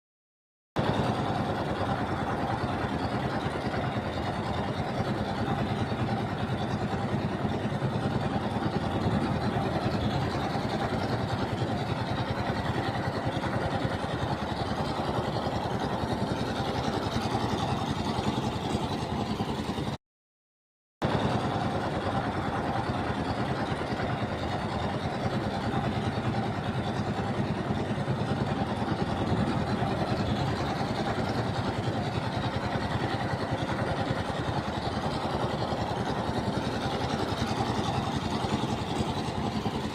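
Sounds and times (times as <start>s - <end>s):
ship engine drone: 0.8s - 20.0s, 21.0s - 39.9s.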